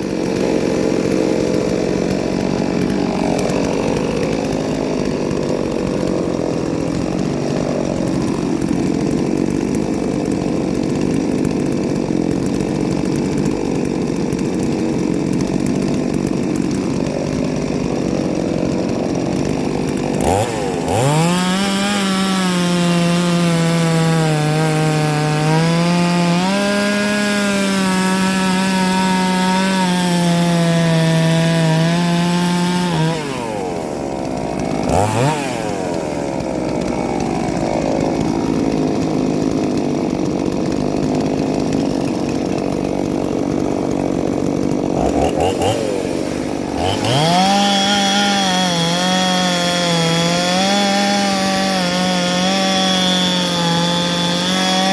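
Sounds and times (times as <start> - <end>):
chainsaw cutting a log: 0.0 - 54.9.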